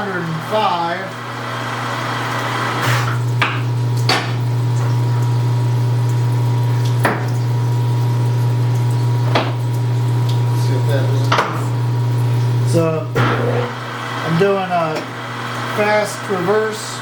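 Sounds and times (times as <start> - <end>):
metal lathe humming: 0.0 - 6.9, 8.4 - 17.0.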